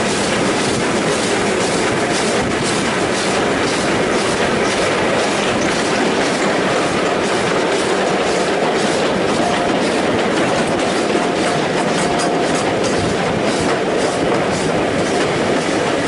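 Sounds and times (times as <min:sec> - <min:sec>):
clickety-clack of rail joints: 0:00.0 - 0:16.0
train wheels rumbling on track: 0:00.0 - 0:16.0.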